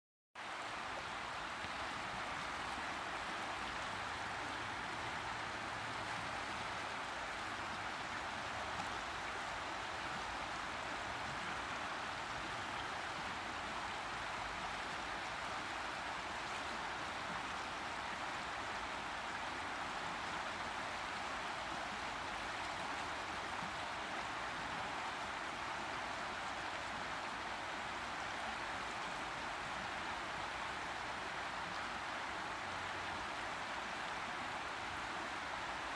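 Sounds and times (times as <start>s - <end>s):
river water rushing: 0.4s - 35.9s.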